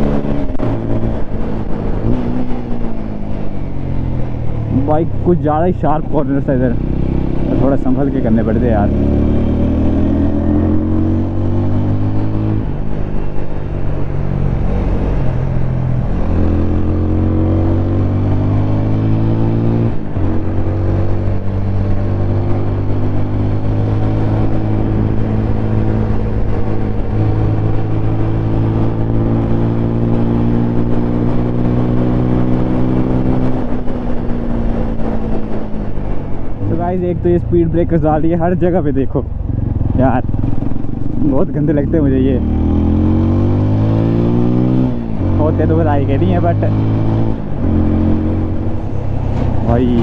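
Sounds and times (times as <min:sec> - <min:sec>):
motorcycle engine running: 0:08.8 - 0:50.0.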